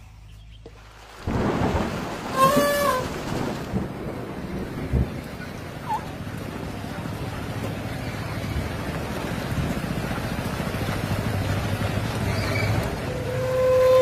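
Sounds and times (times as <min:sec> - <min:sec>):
heavy rain falling: 0:00.8 - 0:14.0.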